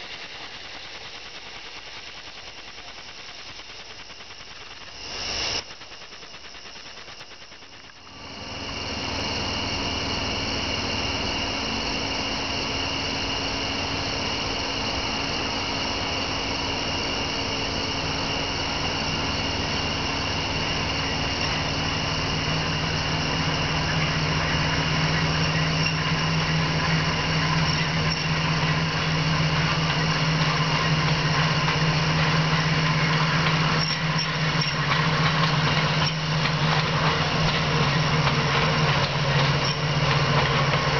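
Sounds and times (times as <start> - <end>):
electric trolley car hum and squeal: 8.0 - 40.9.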